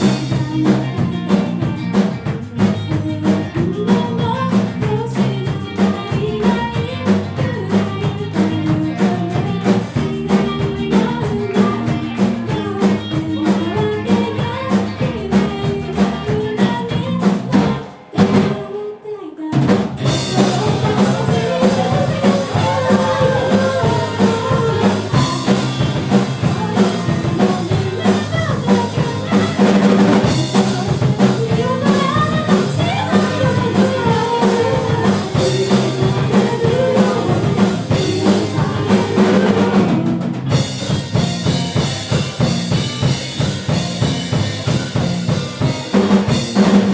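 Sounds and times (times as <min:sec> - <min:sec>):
live rock band playing: 0:00.0 - 0:18.8, 0:19.5 - 0:46.9.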